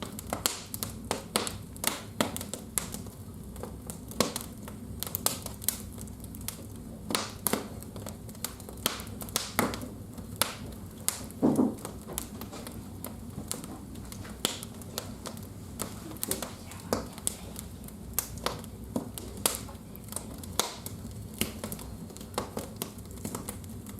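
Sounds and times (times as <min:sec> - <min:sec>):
fire crackling and popping: 0:00.0 - 0:23.9.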